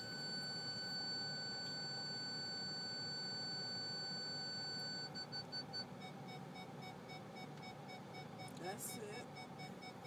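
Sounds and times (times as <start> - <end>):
parking sensor tone and beeps: 0.0 - 10.0.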